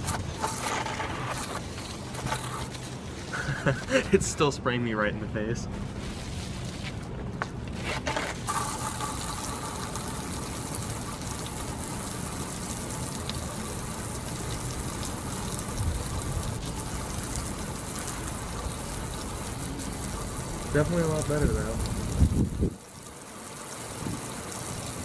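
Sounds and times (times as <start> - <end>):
water jet splashing on wheel: 0.0 - 3.2, 7.8 - 25.0.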